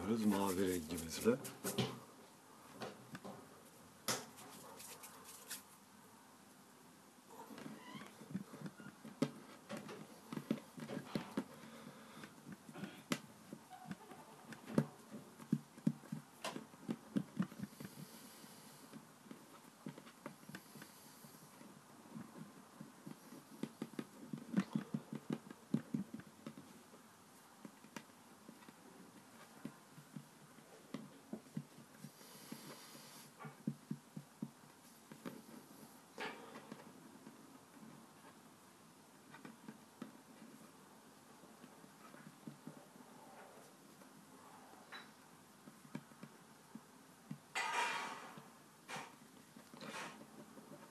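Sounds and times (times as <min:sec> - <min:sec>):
hands kneading play dough: 0:00.0 - 0:01.8, 0:07.5 - 0:47.5.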